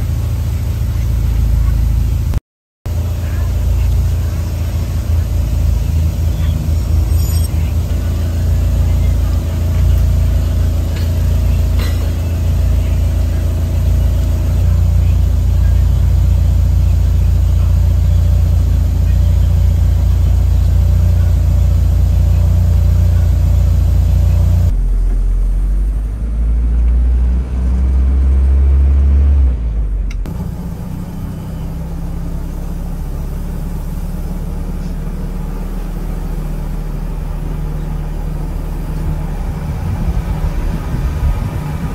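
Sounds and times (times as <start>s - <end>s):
truck engine rumbling: 0.0s - 41.9s.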